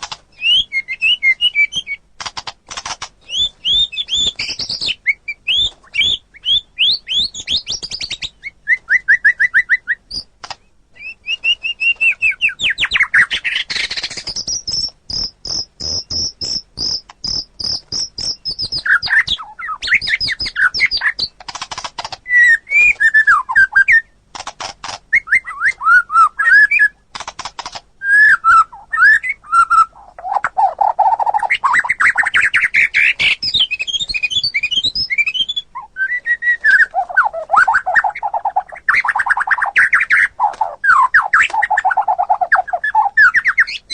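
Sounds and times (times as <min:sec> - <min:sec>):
songbird singing varied song: 0:00.3 - 0:02.1, 0:02.8 - 0:24.2, 0:25.1 - 0:27.0, 0:28.0 - 0:43.9.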